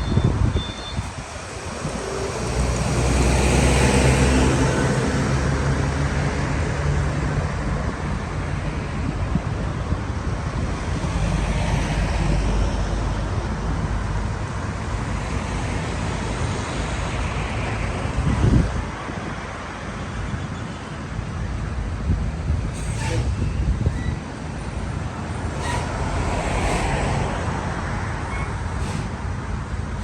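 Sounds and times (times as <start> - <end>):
vehicle and road noise: 0.0 - 30.0
wind: 0.0 - 30.0.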